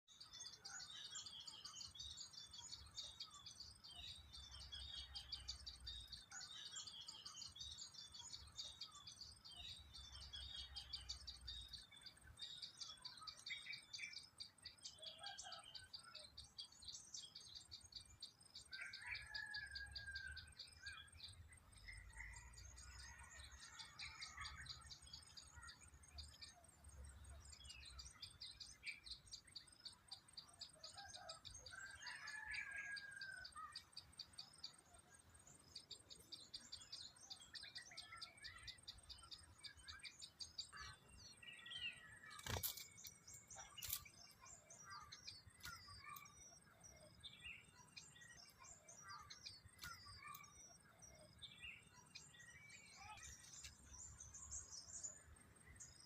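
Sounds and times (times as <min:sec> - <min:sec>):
bird chirps and calls: 0:00.1 - 0:56.0.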